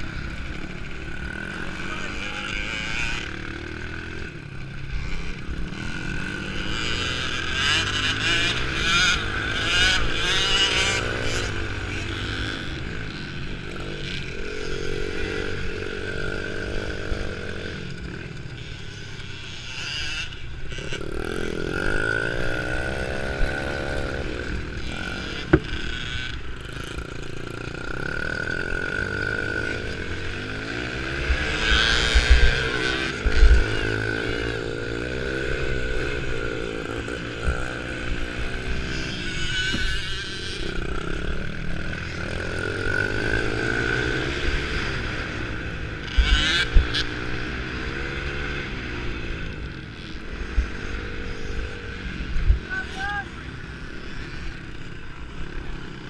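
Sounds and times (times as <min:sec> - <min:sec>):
dirt bike engine revving: 0:00.0 - 0:56.0
other dirt bikes running: 0:00.0 - 0:56.0.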